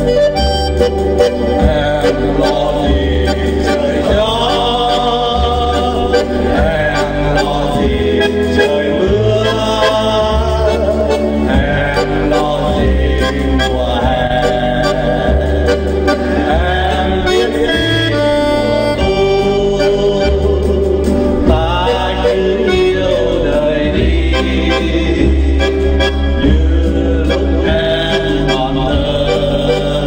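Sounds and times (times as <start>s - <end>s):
instrumental backing music: 0.0s - 30.0s
group of people singing: 1.1s - 30.0s.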